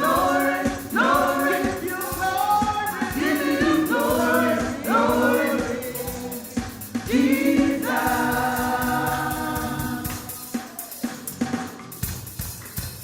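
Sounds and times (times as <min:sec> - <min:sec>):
voices singing together: 0:00.0 - 0:11.7
drum kit: 0:00.0 - 0:13.0.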